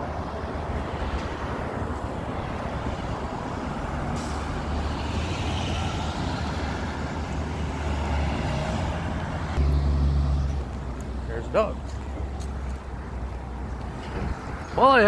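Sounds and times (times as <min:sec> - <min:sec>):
heavy vehicle engine rumbling: 0:00.0 - 0:15.0
street traffic: 0:00.0 - 0:15.0.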